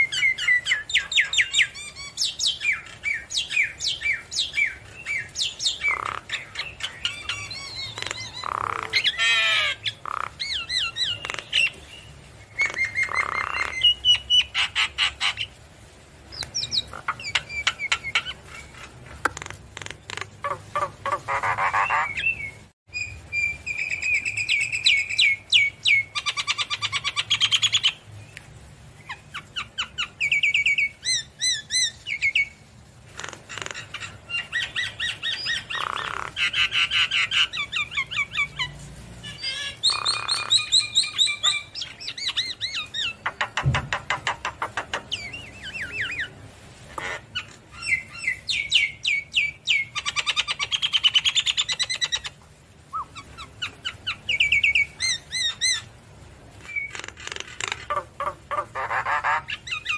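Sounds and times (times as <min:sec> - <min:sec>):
bird singing chirps and trills: 0:00.0 - 0:15.6, 0:16.3 - 0:18.9, 0:20.0 - 0:28.4, 0:33.5 - 0:46.4, 0:47.2 - 0:56.0, 0:56.6 - 0:59.9.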